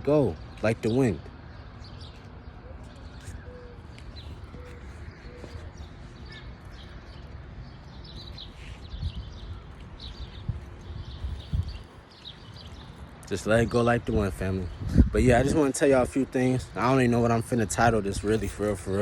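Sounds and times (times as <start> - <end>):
birds chirping and calling: 0.0 - 19.0
wind rumble on microphone: 2.8 - 19.0.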